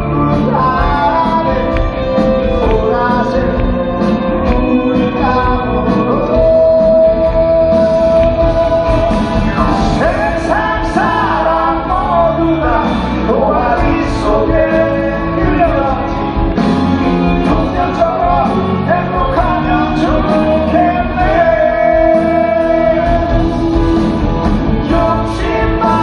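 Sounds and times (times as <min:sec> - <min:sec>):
men singing: 0:00.0 - 0:16.4, 0:17.0 - 0:26.0
live pop-rock band: 0:00.0 - 0:26.0.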